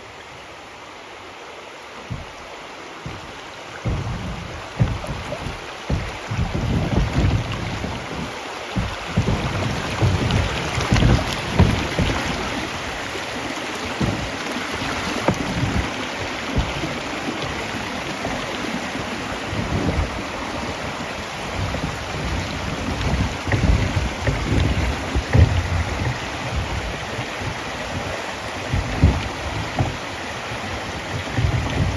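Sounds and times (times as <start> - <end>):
river water rushing: 0.0 - 31.9
wind buffeting microphone: 2.1 - 31.9.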